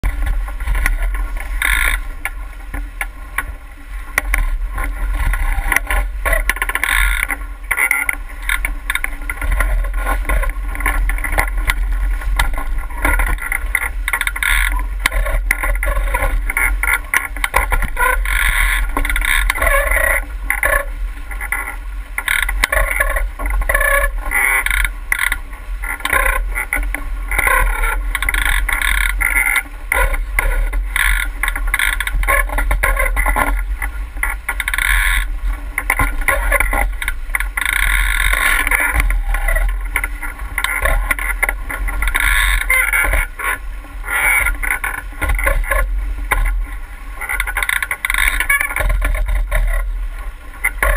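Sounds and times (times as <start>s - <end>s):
steady low rumble: 0.0s - 50.9s
water splashing along boat hull: 0.0s - 50.9s.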